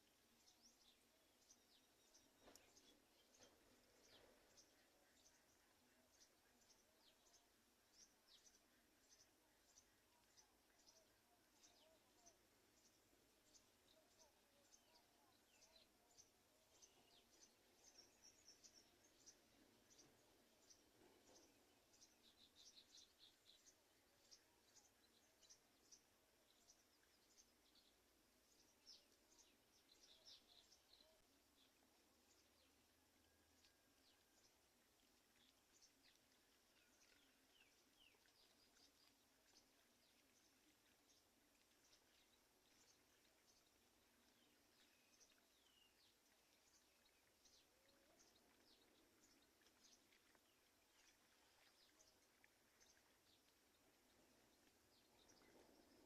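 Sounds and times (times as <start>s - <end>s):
faint high-pitched bird chirps: 0.0s - 56.0s
low background hiss: 0.0s - 56.0s.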